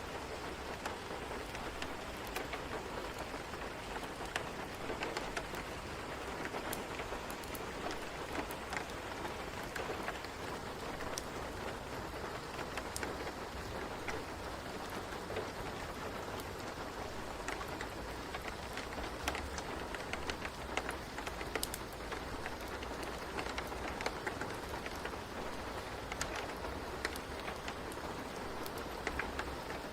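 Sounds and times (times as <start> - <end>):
sharp ticks and crackles: 0.0 - 29.9
steady rain: 0.0 - 29.9.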